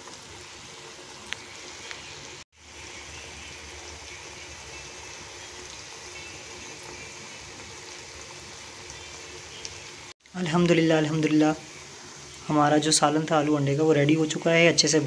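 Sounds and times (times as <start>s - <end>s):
curry sizzling in a pan: 0.0s - 15.0s.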